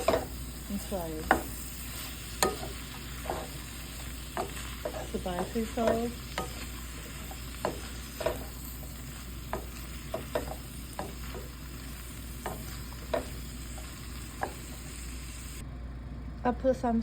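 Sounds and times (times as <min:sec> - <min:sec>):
food sizzling in a frying pan: 0:00.0 - 0:15.6
utensil scraping a pan: 0:01.0 - 0:14.8.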